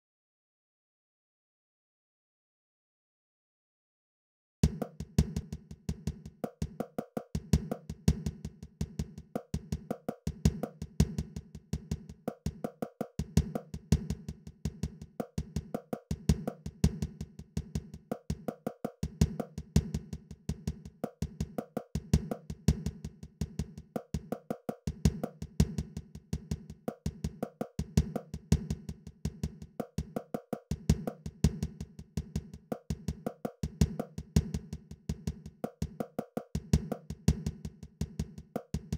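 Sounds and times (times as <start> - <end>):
wood-block beat: 4.6 - 38.9.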